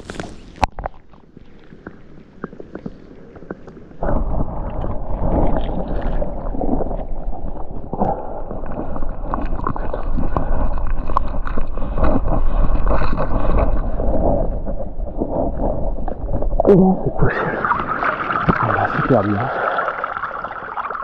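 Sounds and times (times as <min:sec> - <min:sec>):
water sloshing and gurgling: 0:00.0 - 0:21.0.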